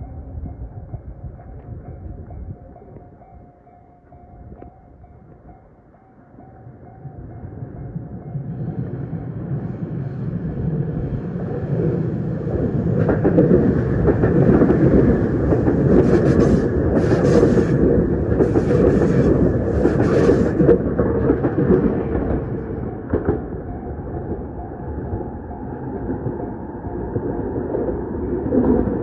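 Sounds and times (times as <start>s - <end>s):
electric train passing: 0.0s - 29.0s
level-crossing warning bell: 0.0s - 29.0s.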